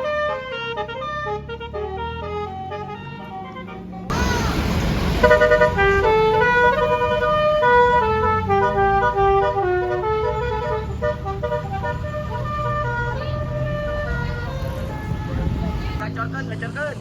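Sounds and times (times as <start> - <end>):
bus horn playing a tune: 0.0 - 16.0.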